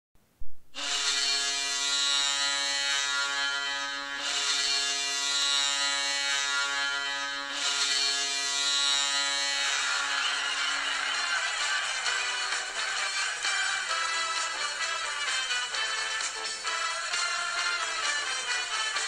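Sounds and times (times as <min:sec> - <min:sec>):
buzzy goal horn blasts: 0:00.8 - 0:19.0.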